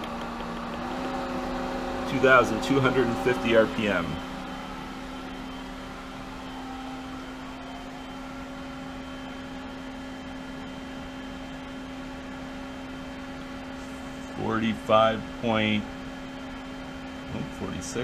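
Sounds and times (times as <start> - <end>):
pool pump motor hum: 0.0 - 18.0.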